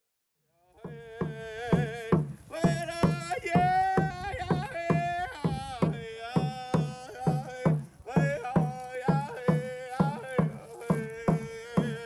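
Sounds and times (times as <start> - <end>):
person singing: 0.7 - 12.0
drum beaten steadily: 0.8 - 12.0.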